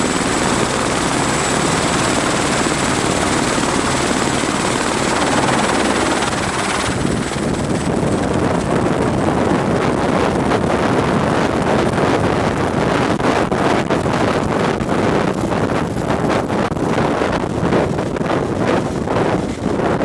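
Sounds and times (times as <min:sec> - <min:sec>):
helicopter turbine whine: 0:00.0 - 0:20.0
rotor downwash buffeting microphone: 0:00.0 - 0:20.0.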